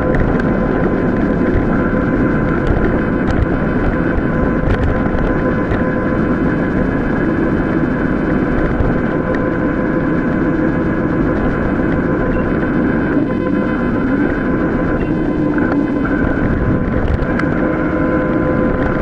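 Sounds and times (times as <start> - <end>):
faint steady hum: 0.0 - 19.0
mountain bike rolling off-road: 0.0 - 19.0
wind rush: 0.0 - 19.0.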